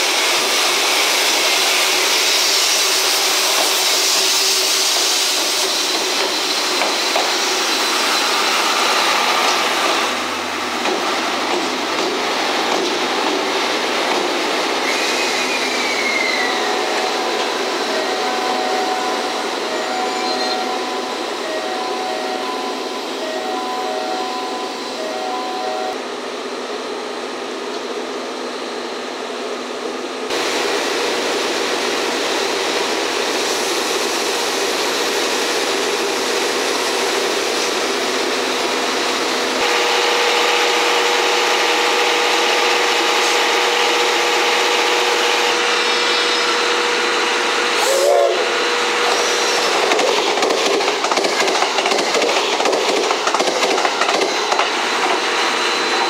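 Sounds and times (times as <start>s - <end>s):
steam locomotive hissing: 0.0s - 23.2s, 30.3s - 56.0s
train wheels on rails: 0.0s - 23.2s, 30.2s - 56.0s
passing train rattling: 0.0s - 56.0s.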